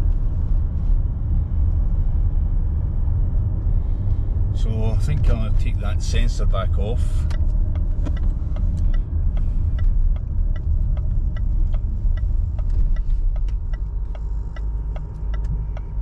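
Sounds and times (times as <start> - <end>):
engine and road rumble: 0.0 - 16.0
turn indicator ticking: 1.2 - 16.0.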